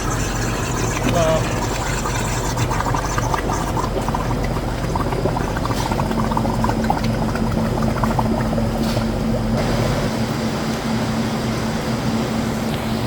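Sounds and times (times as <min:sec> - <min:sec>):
water pouring: 0:00.0 - 0:10.7
steady machine hum: 0:00.0 - 0:13.0.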